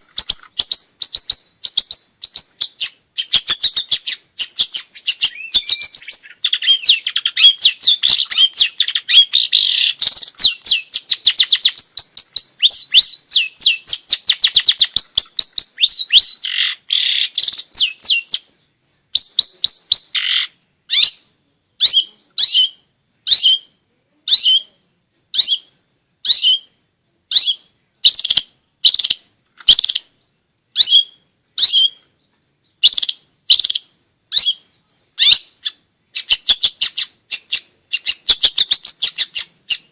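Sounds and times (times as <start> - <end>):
bird chattering song: 0.0 - 39.9
harsh bird calls: 0.0 - 39.9.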